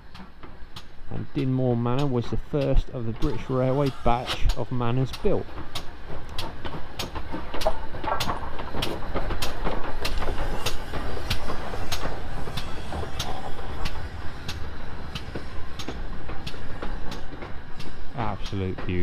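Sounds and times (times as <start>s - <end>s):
sharp rail clicks: 0.0s - 19.0s
train rumbling on rails: 0.0s - 19.0s.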